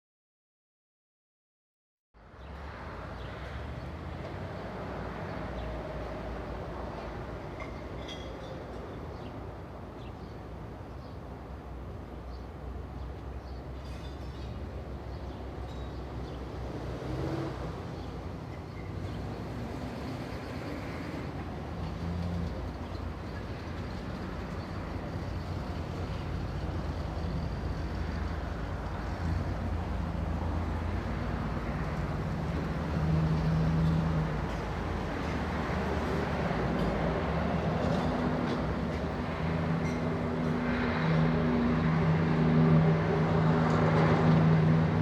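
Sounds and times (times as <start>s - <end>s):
vehicle engine rumble: 2.2s - 45.0s.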